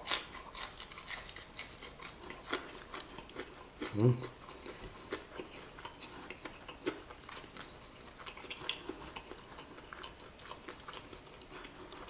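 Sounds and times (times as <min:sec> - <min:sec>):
person chewing crispy chicken: 0:00.0 - 0:12.0.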